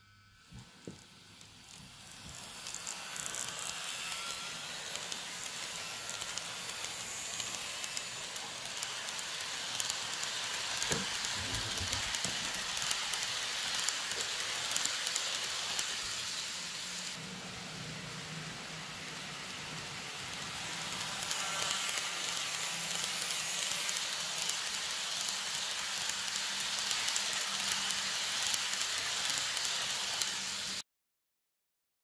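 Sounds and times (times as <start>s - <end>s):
model train wheels hissing on rails: 0.0s - 30.8s.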